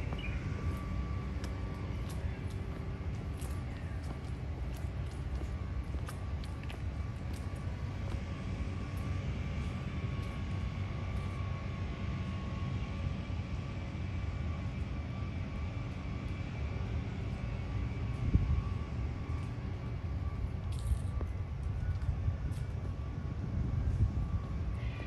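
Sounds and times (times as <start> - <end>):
faint steady whine: 0.0 - 25.0
low rumble of distant engines: 0.0 - 25.0.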